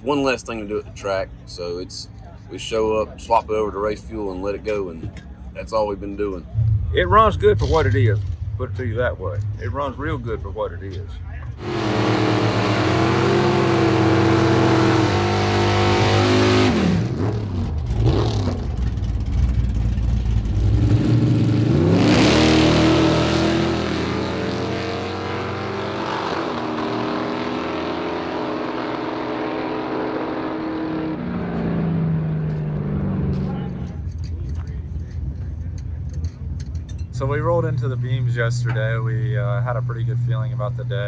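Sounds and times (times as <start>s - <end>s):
car engine revving: 5.6s - 41.0s.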